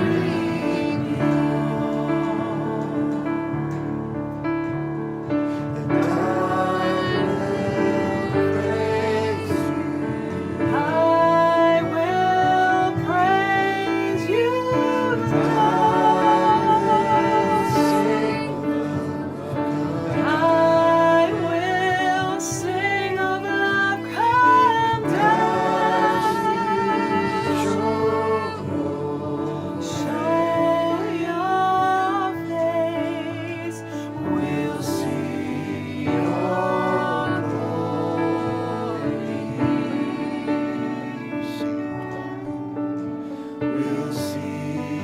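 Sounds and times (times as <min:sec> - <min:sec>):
person singing: 0:00.0 - 0:04.9, 0:05.5 - 0:45.0
instrumental accompaniment: 0:00.0 - 0:45.0.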